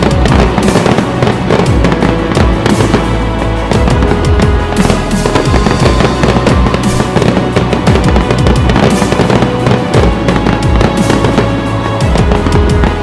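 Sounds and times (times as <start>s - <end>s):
fireworks exploding and crackling: 0.0s - 13.0s
loud music with low beat: 0.0s - 13.0s.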